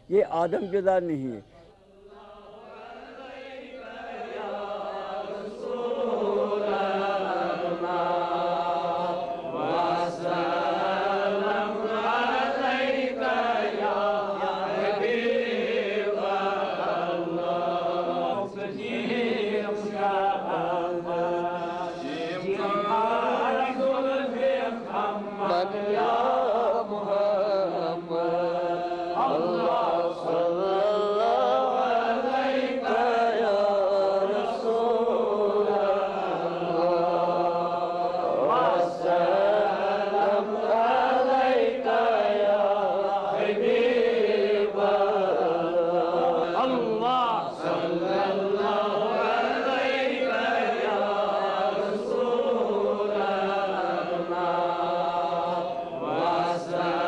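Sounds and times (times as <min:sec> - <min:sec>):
men chanting: 0:00.0 - 0:57.0.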